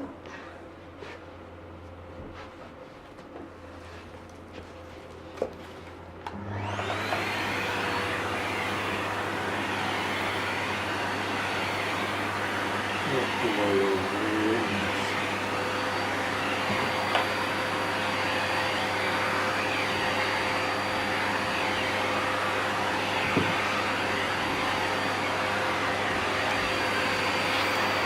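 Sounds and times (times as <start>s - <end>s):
vacuum cleaner running: 3.6s - 28.0s.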